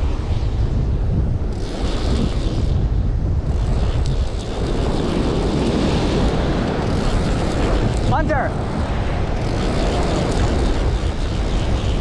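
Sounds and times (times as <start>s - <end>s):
ocean surf on rocky shore: 0.0s - 12.0s
wind buffeting microphone: 0.0s - 12.0s.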